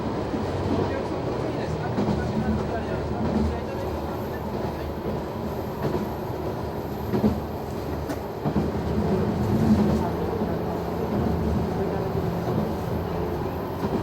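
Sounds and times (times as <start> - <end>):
railcar engine drone: 0.0 - 14.0.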